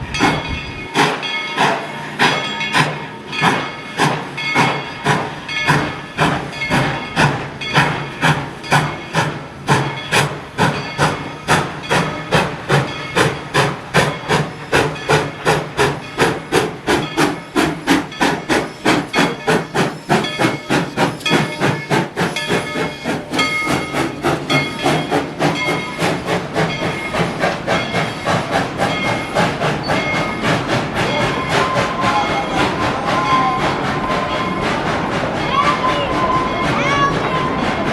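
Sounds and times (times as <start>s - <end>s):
hissing steam: 0.0s - 37.9s
steam locomotive exhaust chuffs: 0.0s - 37.9s.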